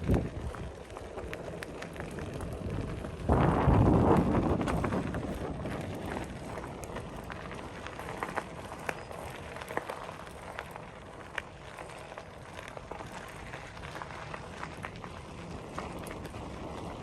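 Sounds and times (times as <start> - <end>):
steady outdoor hum: 0.0 - 17.0.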